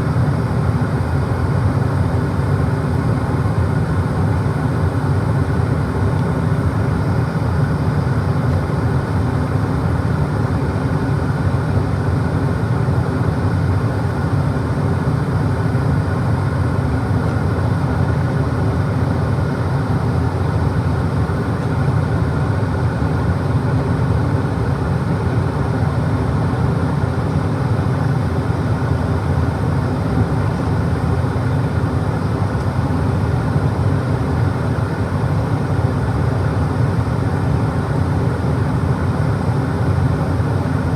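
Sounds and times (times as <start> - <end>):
gas furnace running: 0.0 - 40.9.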